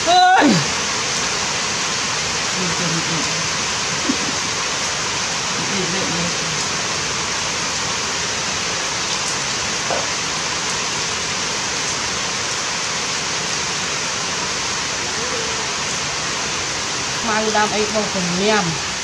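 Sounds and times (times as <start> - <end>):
falling water rushing: 0.0 - 19.0.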